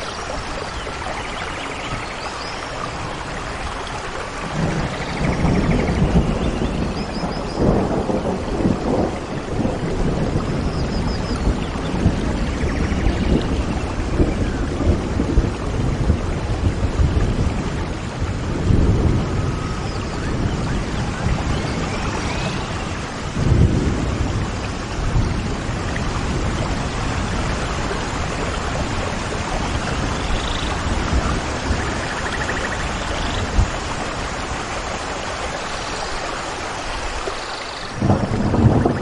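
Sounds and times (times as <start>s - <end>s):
heavy rain: 0.0s - 39.0s
thunder rumble: 2.8s - 35.1s, 37.9s - 39.0s.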